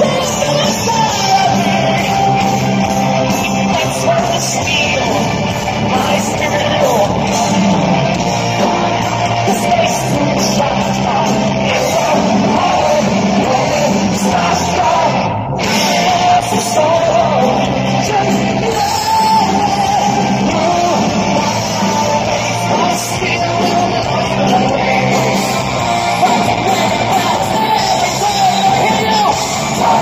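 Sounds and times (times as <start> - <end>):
drums: 0.0 - 30.0
electric guitar: 0.0 - 30.0
keyboards: 0.0 - 30.0
lead singer singing: 0.0 - 30.0.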